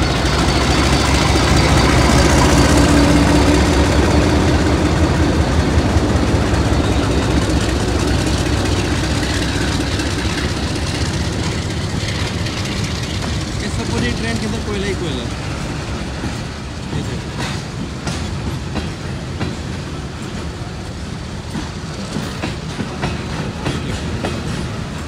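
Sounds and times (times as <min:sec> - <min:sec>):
diesel locomotive engine: 0:00.0 - 0:25.0
train rumbling on track: 0:00.0 - 0:25.0.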